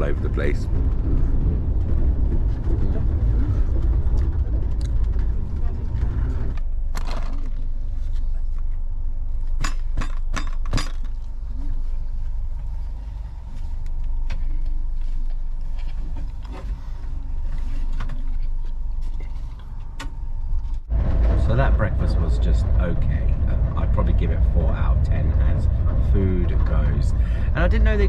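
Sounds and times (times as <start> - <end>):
train carriage rumble: 0.0 - 28.0.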